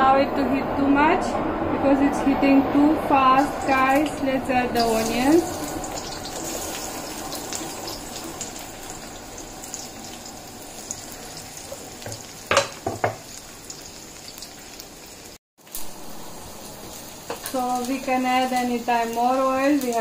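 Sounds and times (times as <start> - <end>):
onions sizzling in hot oil: 3.4 - 20.0.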